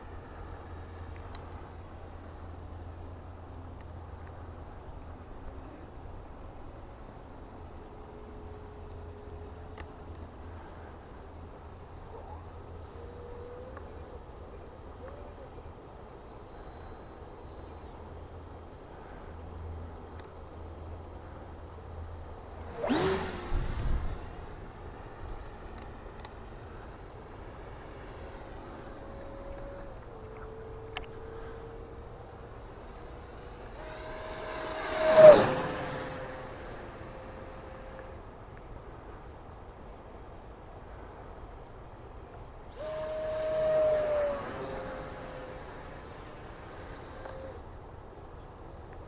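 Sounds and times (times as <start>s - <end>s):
distant electric fan whine: 0.0s - 38.6s, 42.5s - 48.5s.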